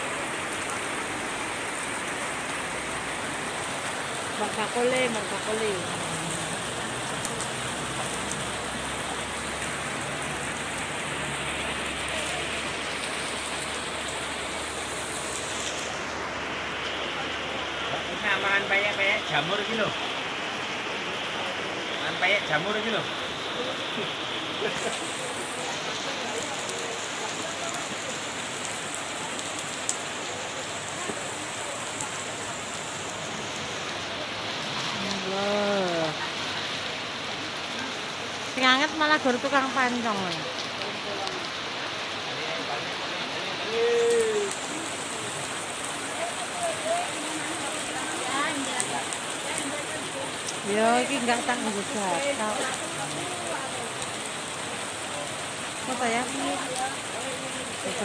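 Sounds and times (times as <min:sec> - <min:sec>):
heavy rain on umbrellas and water: 0:00.0 - 0:58.0.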